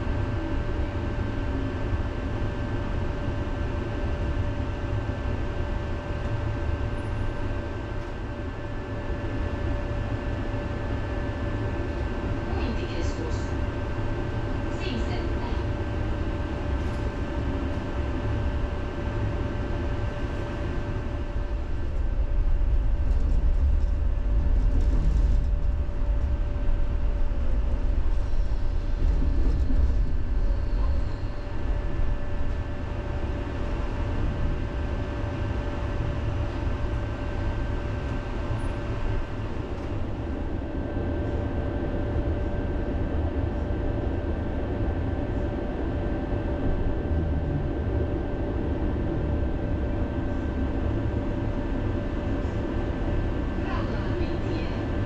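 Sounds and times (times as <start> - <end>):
tram rumbling along rails: 0.0 - 55.0.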